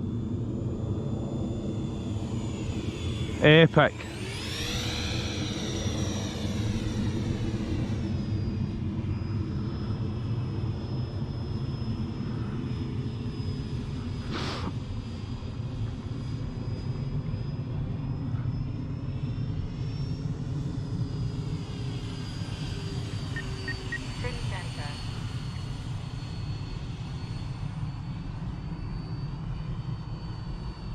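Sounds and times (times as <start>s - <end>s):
electric ducted fan whine: 0.0s - 14.7s, 20.2s - 30.9s.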